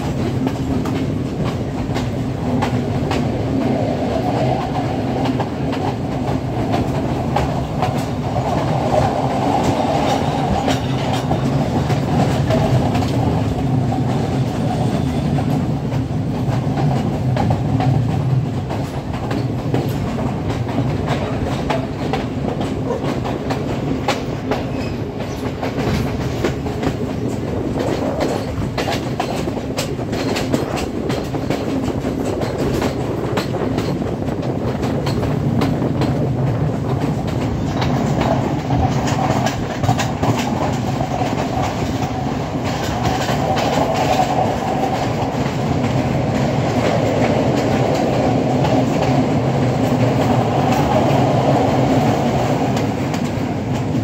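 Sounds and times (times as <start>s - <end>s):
train rumbling and rattling: 0.0s - 54.0s
wheels clicking over rail joints: 0.0s - 54.0s.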